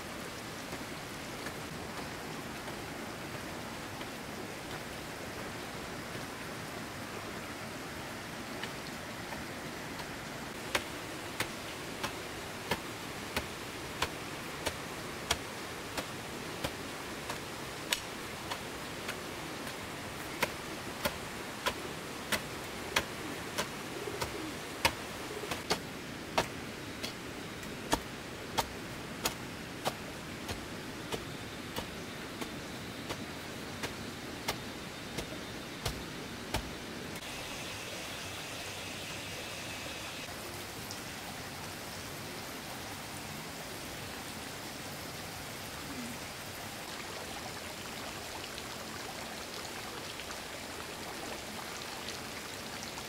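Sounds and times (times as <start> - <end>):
rain hiss: 0.0 - 53.0.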